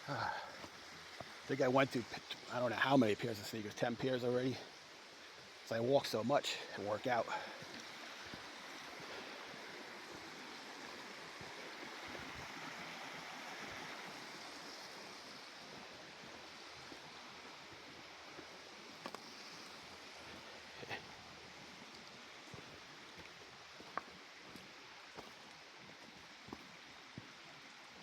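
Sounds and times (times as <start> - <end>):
stream running water: 0.0 - 28.0.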